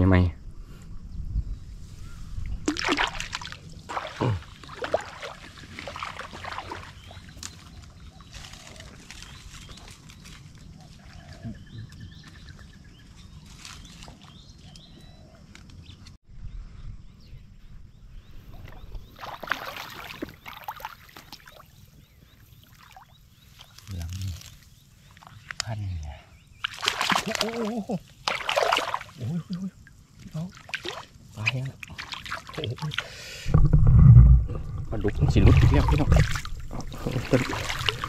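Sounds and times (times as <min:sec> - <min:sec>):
wading through floodwater and brush: 0:01.8 - 0:15.4, 0:18.4 - 0:38.0.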